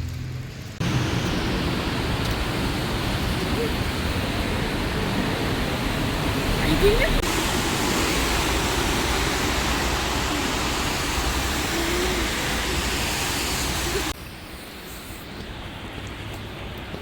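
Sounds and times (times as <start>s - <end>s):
rain hissing on wet street: 0.0s - 17.0s.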